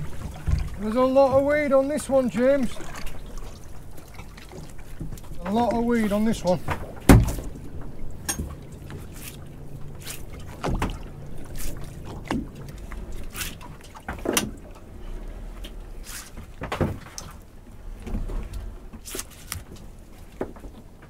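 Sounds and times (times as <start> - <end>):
wet rope hauled over boat side: 0.0 - 21.0.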